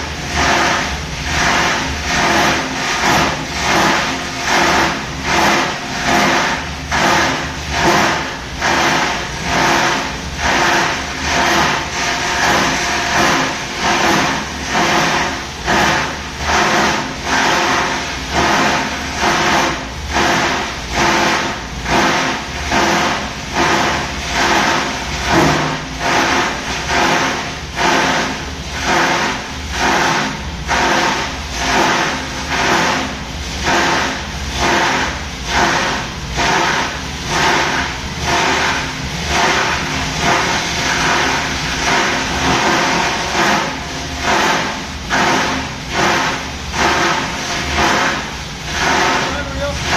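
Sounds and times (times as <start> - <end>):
grinder machine pulsing din: 0.0 - 49.9.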